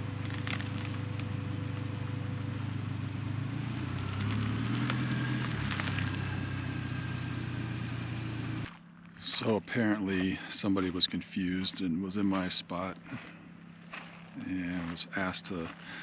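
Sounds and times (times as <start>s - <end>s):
truck engine and road hum: 0.0s - 16.0s
tyres crackling: 0.0s - 16.0s.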